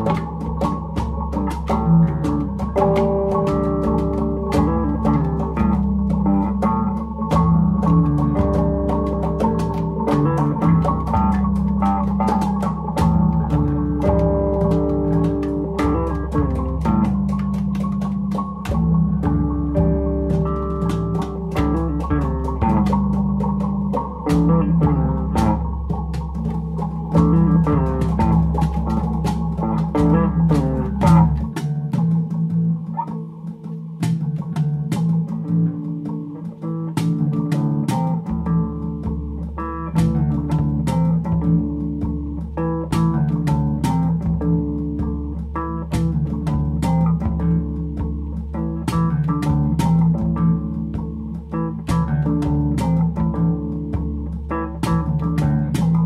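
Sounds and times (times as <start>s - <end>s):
bass: 0.0s - 56.0s
light percussion: 0.0s - 56.0s
plucked guitar: 0.0s - 56.0s.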